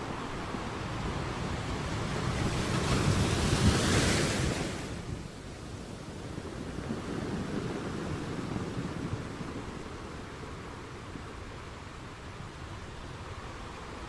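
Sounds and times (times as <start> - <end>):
surf rushing: 0.0 - 14.0
wave washing in: 0.0 - 14.0.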